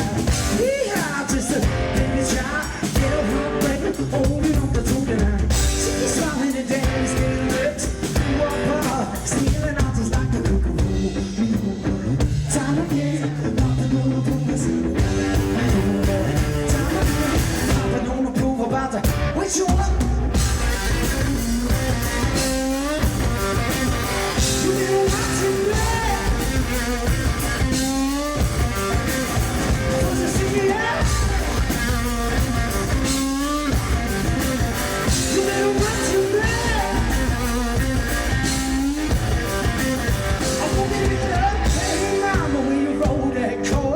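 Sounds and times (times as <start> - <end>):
distorted electric guitar: 0.0 - 18.3, 19.1 - 43.9
drum kit: 0.0 - 43.9
person singing: 0.0 - 43.9.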